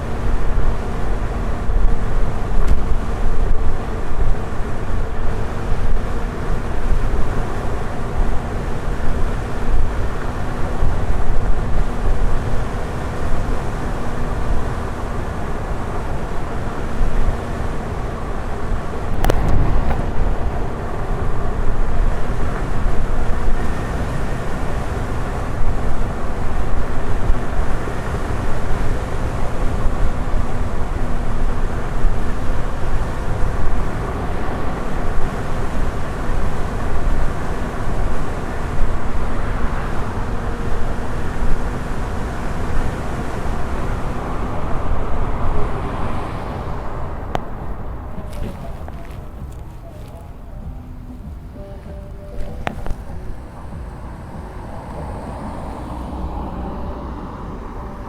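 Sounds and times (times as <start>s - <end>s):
faint steady hum: 0.0s - 58.0s
wind rumble on microphone: 0.0s - 58.0s.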